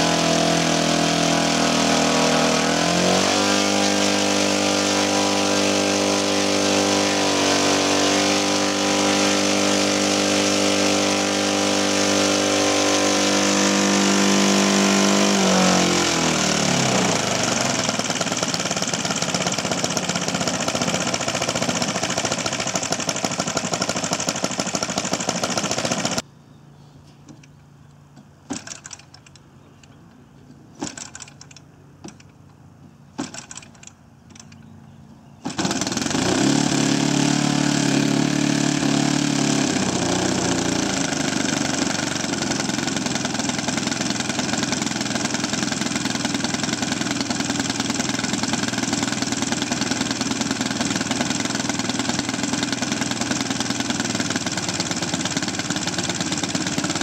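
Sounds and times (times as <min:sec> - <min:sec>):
model plane petrol engine running: 0:00.0 - 0:26.2, 0:35.5 - 0:57.0.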